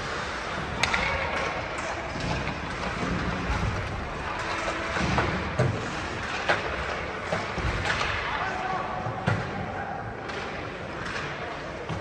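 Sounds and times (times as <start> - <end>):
hockey sticks and pucks clacking: 0.0 - 12.0
steady background noise: 0.0 - 12.0.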